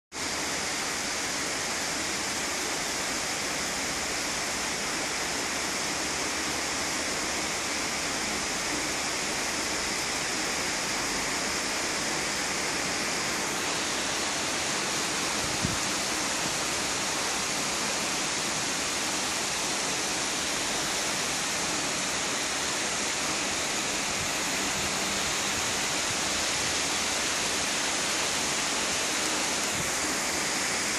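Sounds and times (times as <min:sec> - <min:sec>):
heavy rain pouring: 0:00.1 - 0:30.9.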